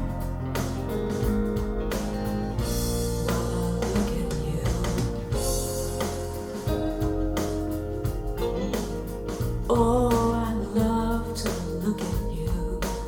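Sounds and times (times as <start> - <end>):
guitar-led music over bass line: 0.0 - 13.0.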